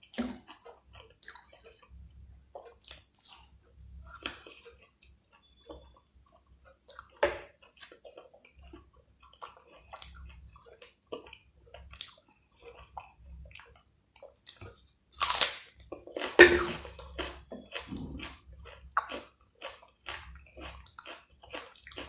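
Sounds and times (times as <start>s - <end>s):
person chewing with wet mouth sounds: 0.0s - 22.0s.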